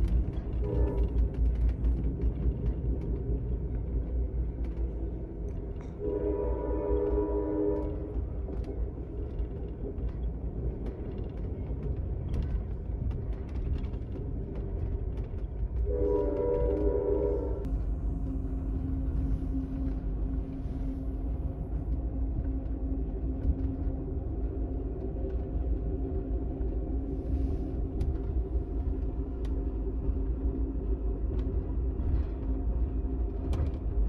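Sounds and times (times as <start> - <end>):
train car rumbling: 0.0 - 34.0.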